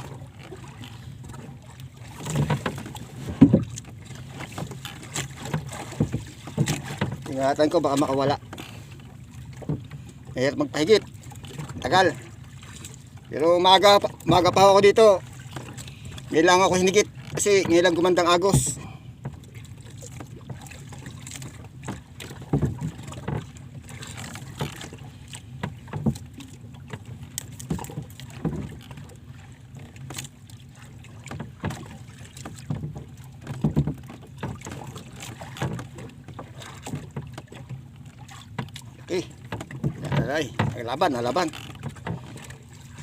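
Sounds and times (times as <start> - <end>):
water lapping against boat hull: 0.0 - 43.0.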